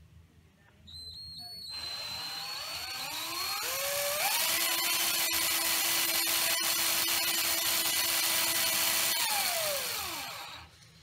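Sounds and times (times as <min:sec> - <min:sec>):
electric drill whine: 0:01.7 - 0:10.7.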